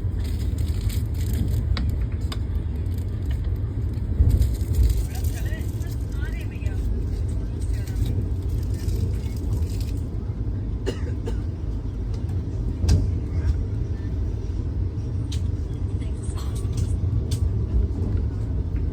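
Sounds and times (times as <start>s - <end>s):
train rumbling: 0.0s - 18.9s.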